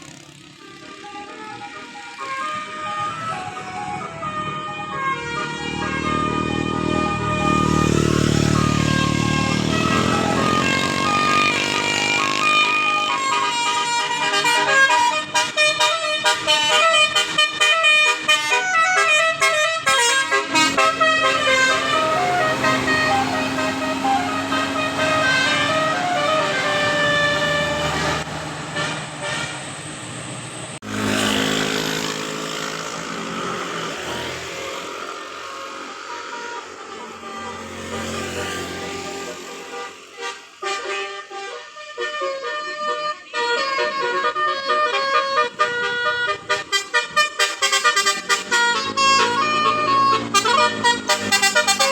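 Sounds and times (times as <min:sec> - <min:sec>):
multi-tone air horn melody: 0:00.0 - 0:29.7, 0:33.0 - 0:51.9.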